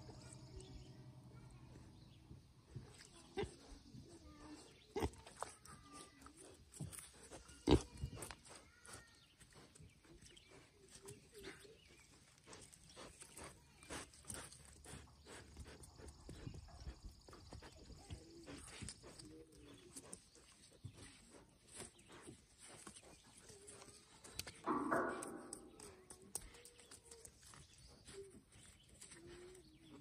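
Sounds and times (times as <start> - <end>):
piglets grunting and snuffling: 2.6 - 30.0.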